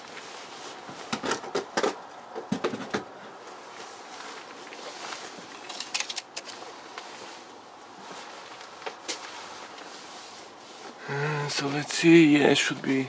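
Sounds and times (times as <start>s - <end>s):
steady faint hiss: 0.0s - 13.0s.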